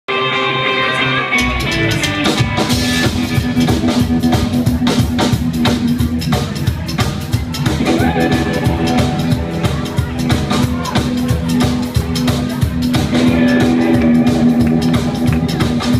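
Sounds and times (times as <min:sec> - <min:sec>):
rockabilly band playing: 0:00.1 - 0:15.9
drum kit beat: 0:01.4 - 0:15.9.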